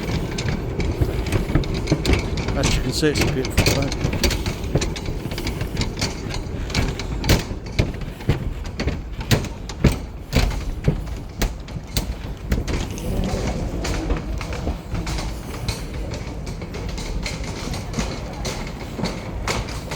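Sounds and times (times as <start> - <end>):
footsteps on paving: 0.0 - 19.9
low city rumble: 0.0 - 19.9.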